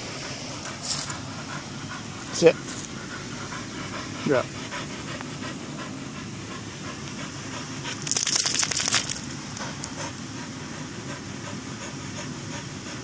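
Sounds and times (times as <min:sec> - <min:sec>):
dog panting: 0:00.1 - 0:13.0.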